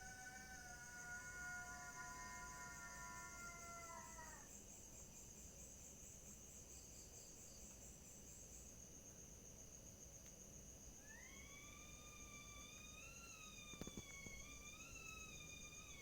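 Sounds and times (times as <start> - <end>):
night insects chirring: 0.0 - 16.0.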